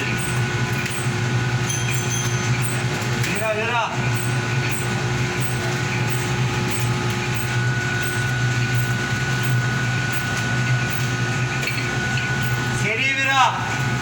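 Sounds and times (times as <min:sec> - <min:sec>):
high steady whine: 0:00.0 - 0:14.0.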